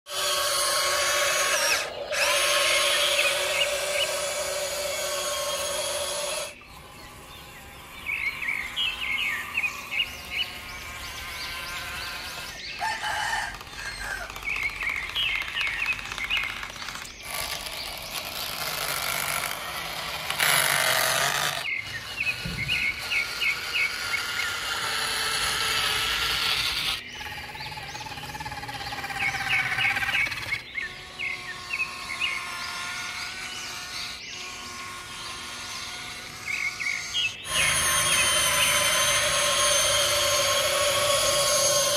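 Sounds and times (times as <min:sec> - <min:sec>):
birds chirping: 0:00.0 - 0:41.9
electric motors whining: 0:00.0 - 0:41.9.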